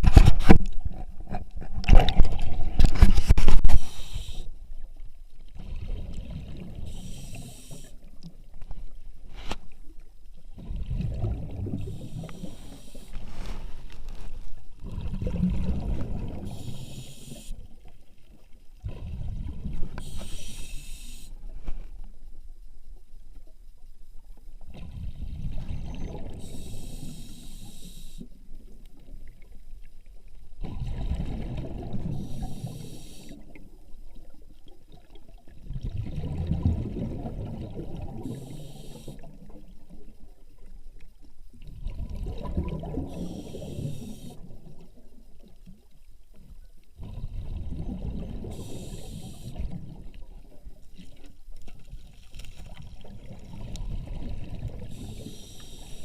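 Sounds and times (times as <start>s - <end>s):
water gurgling with hiss: 1.3s - 8.4s, 10.3s - 13.6s, 14.8s - 21.6s, 24.6s - 56.0s.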